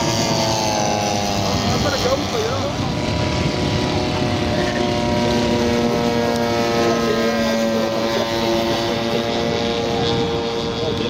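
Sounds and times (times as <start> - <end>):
model aircraft propeller droning: 0.0 - 11.0.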